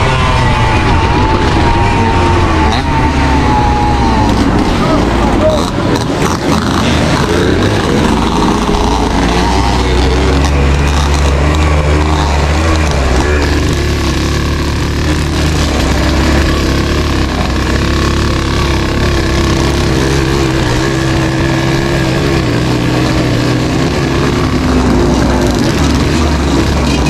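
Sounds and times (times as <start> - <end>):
motorcycle engine revving hard: 0.0 - 27.0.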